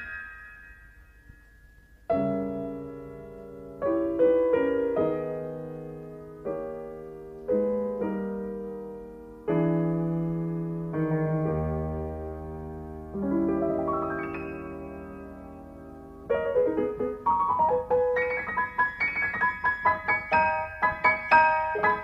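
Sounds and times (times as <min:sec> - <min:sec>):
slow solo piano chords: 0:00.0 - 0:22.0.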